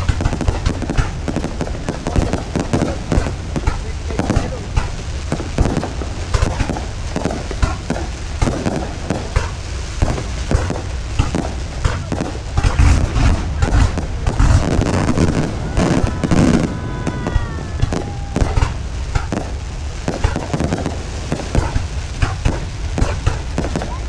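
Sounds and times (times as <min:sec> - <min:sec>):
deep fireworks booms: 0:00.0 - 0:24.0
fireworks bangs and crackles: 0:00.0 - 0:24.0.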